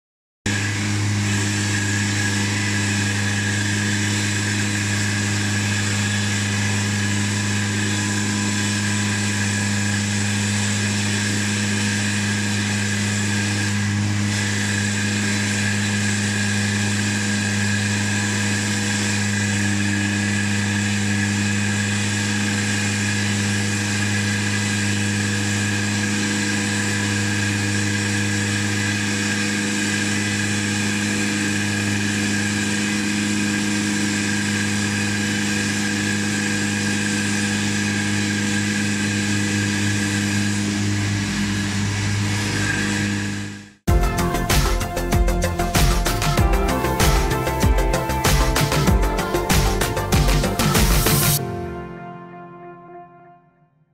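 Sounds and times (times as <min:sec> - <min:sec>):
saw blade grinding pavement: 0:00.5 - 0:51.4
road saw engine hum: 0:00.5 - 0:51.9.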